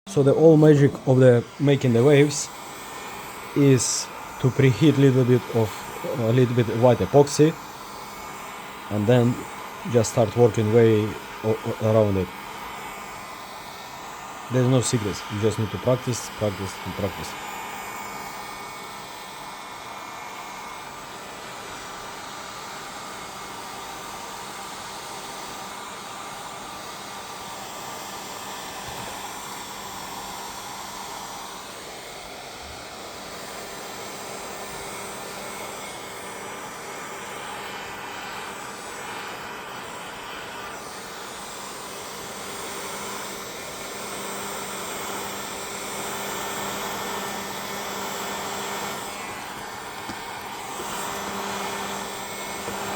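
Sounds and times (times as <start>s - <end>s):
hot-air blower running: 0.0s - 52.9s.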